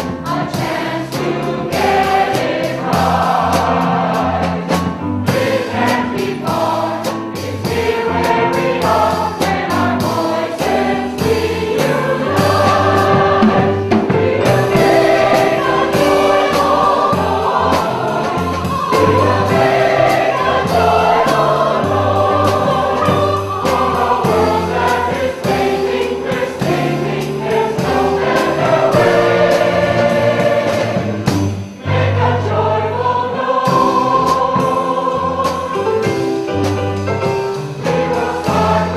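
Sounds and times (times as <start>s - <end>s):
accompaniment with steady beat: 0.0s - 38.9s
mixed choir singing: 0.0s - 38.9s.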